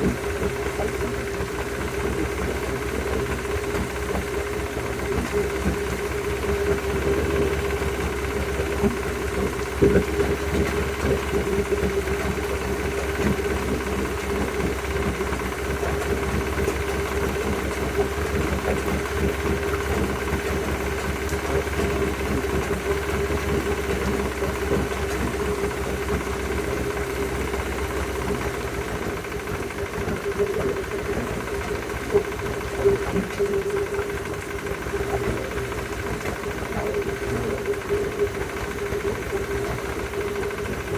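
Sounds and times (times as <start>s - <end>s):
outboard motor knocking: 0.0s - 40.9s.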